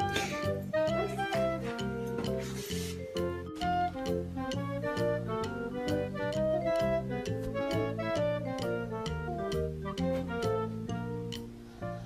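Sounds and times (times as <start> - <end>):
bass chords: 0.0 - 12.0
bouncy keyboard tune: 0.0 - 12.0.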